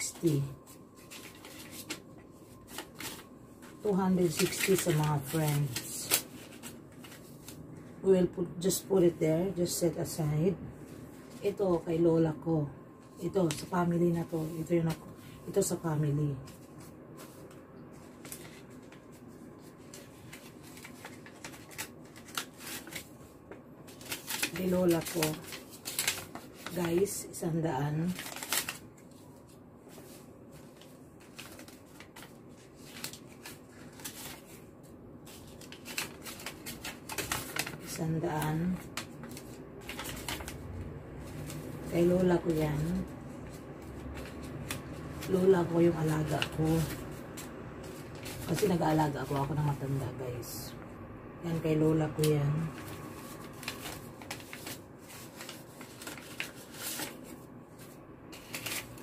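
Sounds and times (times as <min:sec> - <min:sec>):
paper envelope rustling: 0:00.0 - 0:07.9, 0:13.0 - 0:50.4, 0:51.5 - 0:59.0.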